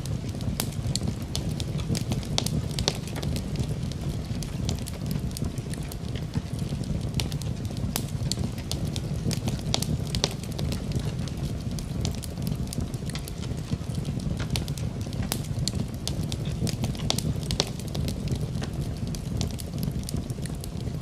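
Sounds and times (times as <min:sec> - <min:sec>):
fire popping and snapping: 0:00.0 - 0:21.0
wood fire crackling: 0:00.0 - 0:21.0.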